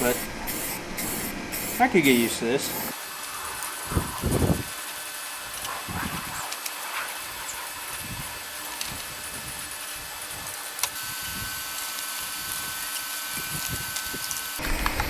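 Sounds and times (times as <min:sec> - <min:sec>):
spray paint can hissing: 0:00.0 - 0:15.0.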